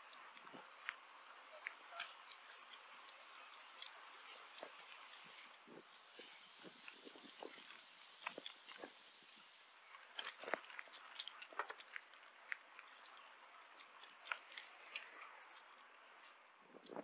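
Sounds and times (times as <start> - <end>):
bicycle tyres crunching: 0.0 - 17.0
faint steady hiss: 0.0 - 17.0.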